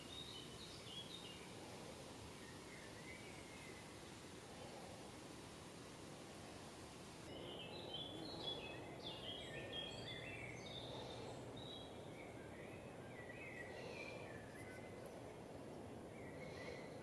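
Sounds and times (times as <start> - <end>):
low background noise: 0.0 - 17.0
songbirds chirping: 0.0 - 17.0.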